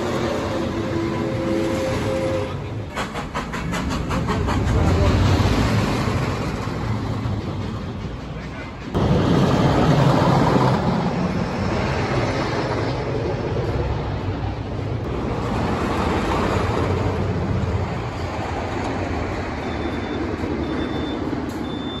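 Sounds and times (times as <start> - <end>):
roller coaster train roaring: 0.0 - 22.0.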